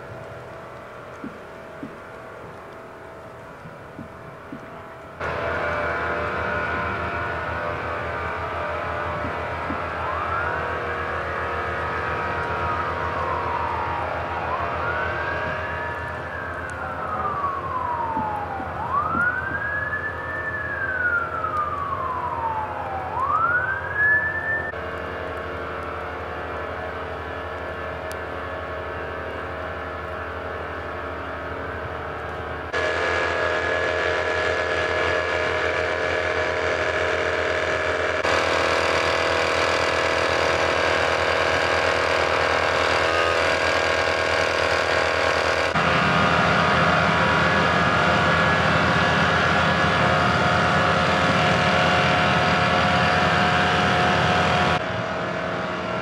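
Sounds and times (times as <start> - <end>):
fire truck engines idling: 0.0 - 56.0.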